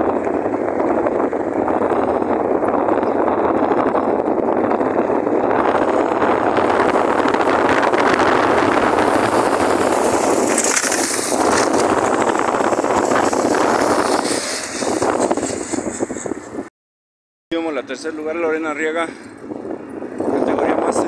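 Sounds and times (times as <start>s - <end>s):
wind buffeting microphone: 0.0s - 16.7s, 17.6s - 21.0s.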